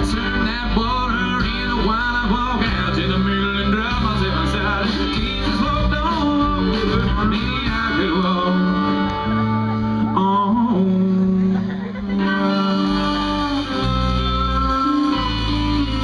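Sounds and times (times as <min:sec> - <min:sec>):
acoustic guitar: 0:00.0 - 0:16.0
drums: 0:00.0 - 0:16.0
electric guitar: 0:00.0 - 0:16.0
fiddle: 0:00.0 - 0:16.0.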